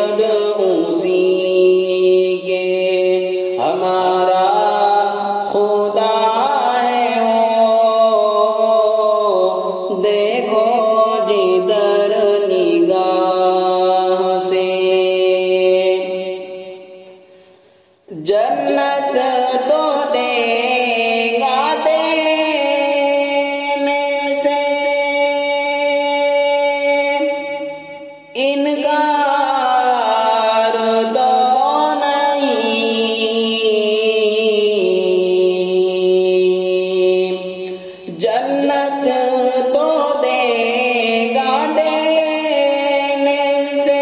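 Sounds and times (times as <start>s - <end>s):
held vocal drone: 0.0s - 17.4s, 18.0s - 44.0s.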